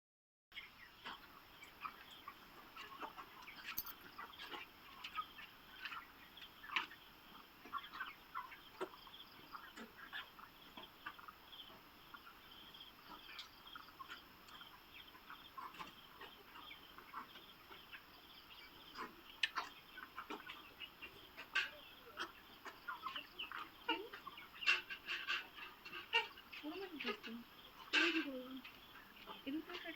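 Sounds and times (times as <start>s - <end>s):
chickens clucking: 0.6s - 29.9s.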